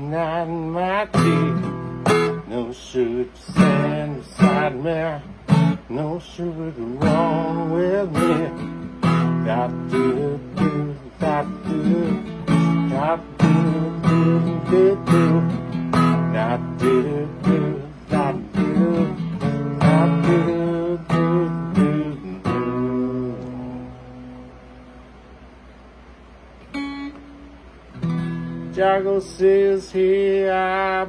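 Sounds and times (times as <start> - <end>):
acoustic guitar strumming: 0.0 - 25.2, 26.6 - 31.0.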